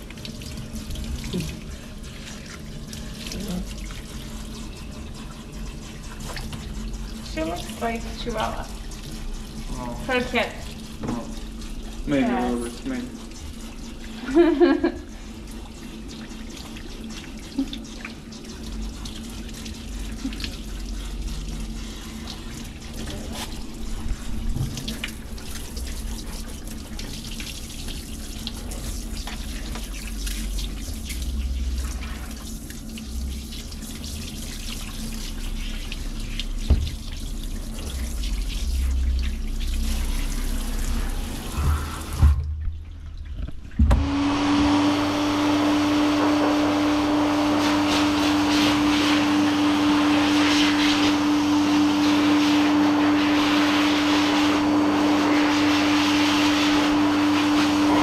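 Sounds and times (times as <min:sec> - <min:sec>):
shower sprayer spraying water: 0:00.0 - 0:42.4, 0:44.0 - 0:58.0.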